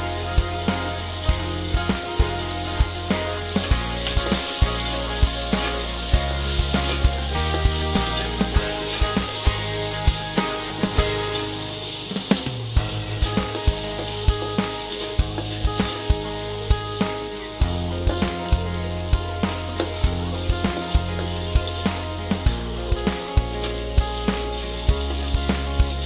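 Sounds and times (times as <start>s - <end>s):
background music with steady beat: 0.0s - 26.0s
onions sizzling in hot oil: 0.0s - 26.0s.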